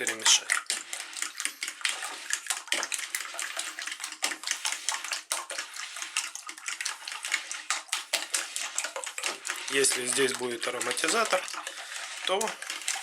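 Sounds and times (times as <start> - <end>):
eggs sloshing in a bowl: 0.0 - 13.0
utensil ticking against bowl: 0.0 - 13.0.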